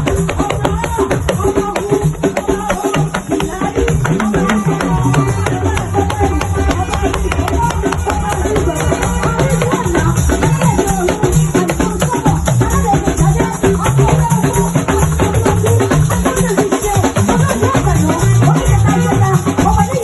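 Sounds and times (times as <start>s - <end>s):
lively music with shakers and drums: 0.0s - 20.0s.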